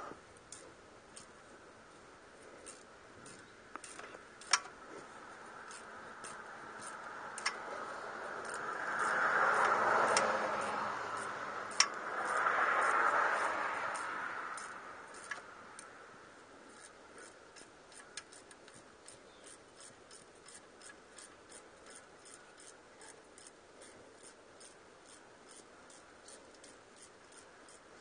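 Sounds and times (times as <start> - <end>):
ratchet wrench clicking: 0.4 - 1.4, 2.6 - 4.8, 5.5 - 15.9, 16.7 - 27.9.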